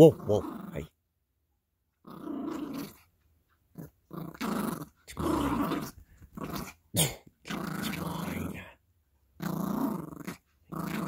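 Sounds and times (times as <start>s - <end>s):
puppy play-growling: 0.0s - 1.0s, 1.9s - 11.0s.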